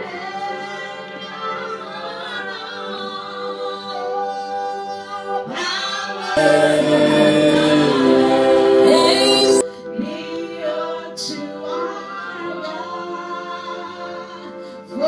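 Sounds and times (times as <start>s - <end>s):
group singing worship song: 1.8s - 15.0s.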